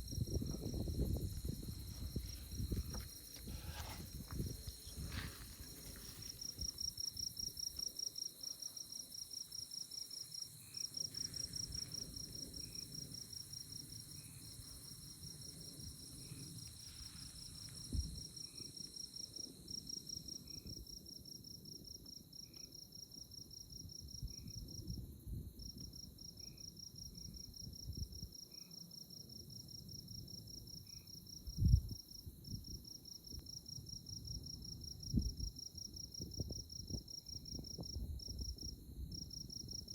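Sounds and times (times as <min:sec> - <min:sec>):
crickets pulsed high trill: 0:00.0 - 0:39.9
insect steady high buzz: 0:00.0 - 0:39.9
soft single cricket chirp: 0:00.0 - 0:39.9.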